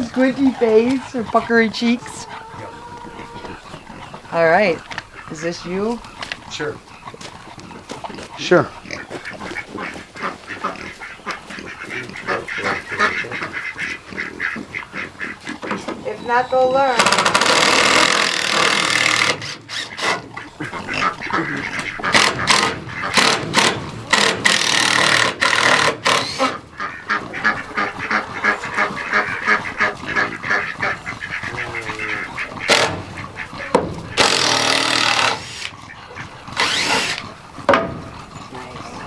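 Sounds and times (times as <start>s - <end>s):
ducks quacking and honking: 0.0s - 39.0s.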